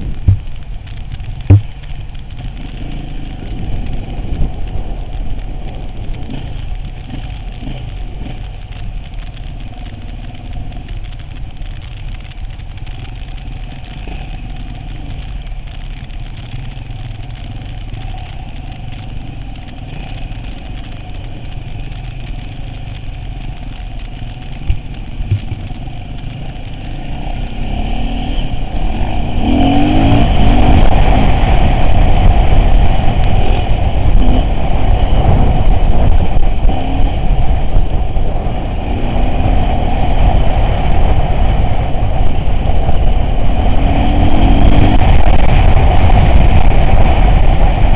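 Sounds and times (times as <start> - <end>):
off-road vehicle engine running: 0.0 - 47.9
sharp clicks and crackles: 0.0 - 47.9.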